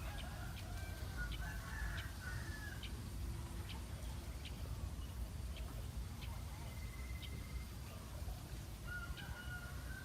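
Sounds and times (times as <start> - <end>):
bird chirping: 0.0 - 9.9
faint bird calls: 0.0 - 10.0.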